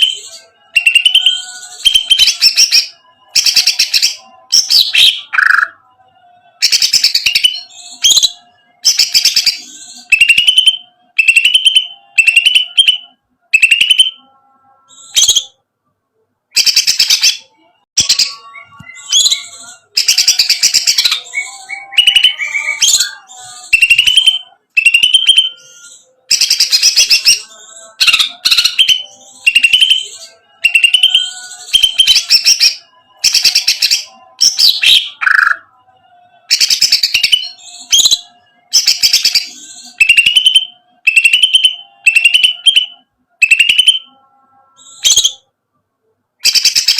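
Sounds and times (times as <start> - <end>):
bird singing rattling song: 0.0 - 15.6, 16.5 - 45.5, 46.4 - 46.9.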